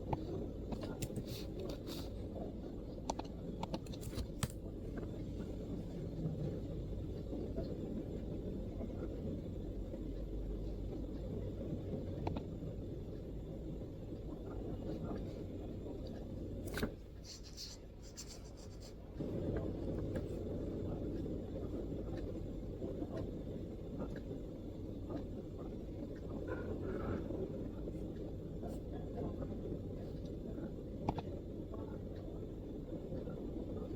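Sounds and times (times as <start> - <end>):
low background rumble: 0.0 - 33.9.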